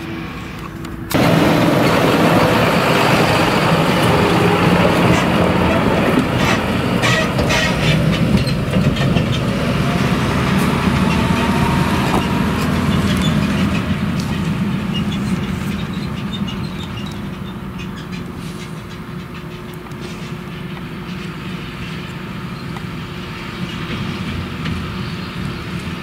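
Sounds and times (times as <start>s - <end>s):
tractor engine running: 0.0s - 26.0s
trailer rattling and knocking: 1.0s - 26.0s.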